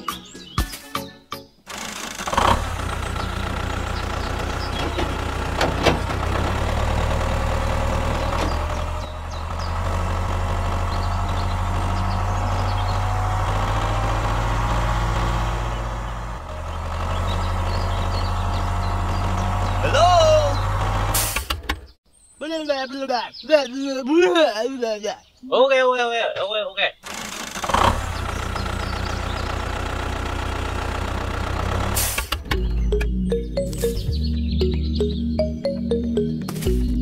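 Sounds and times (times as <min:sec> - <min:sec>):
tractor engine running: 0:01.7 - 0:22.0, 0:27.0 - 0:37.0.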